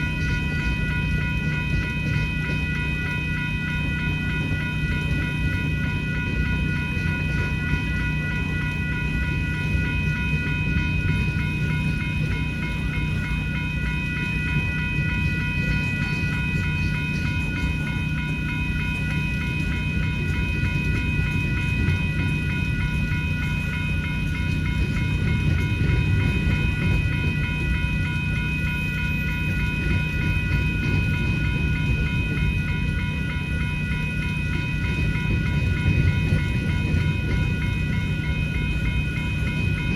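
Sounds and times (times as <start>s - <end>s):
crossing signal bells ringing: 0.0s - 39.9s
freight train cars rumbling: 0.0s - 39.9s.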